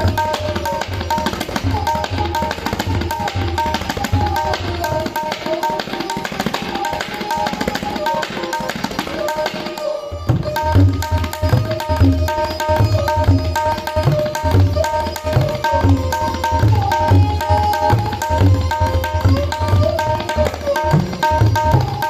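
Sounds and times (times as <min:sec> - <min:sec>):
ringing tabla strokes: 0:00.0 - 0:22.0.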